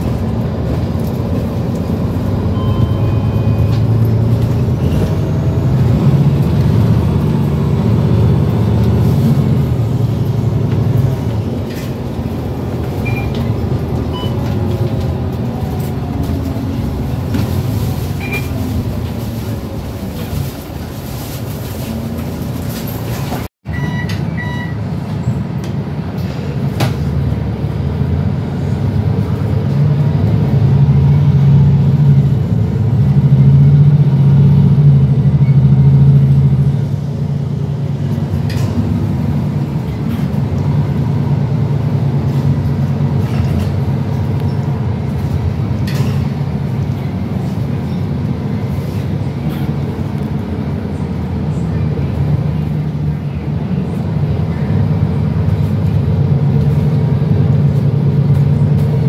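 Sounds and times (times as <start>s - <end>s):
bus engine: 0.0s - 59.0s.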